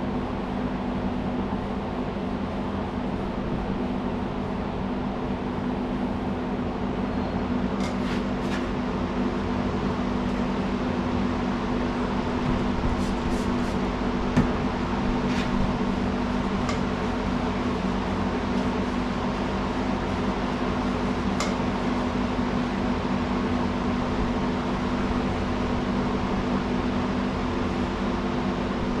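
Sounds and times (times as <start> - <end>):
mechanical hum: 0.0 - 29.0.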